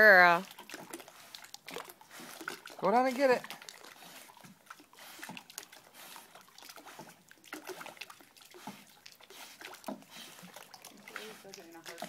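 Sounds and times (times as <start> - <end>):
water lapping: 0.0 - 12.0
dog splashing while swimming: 0.2 - 12.0.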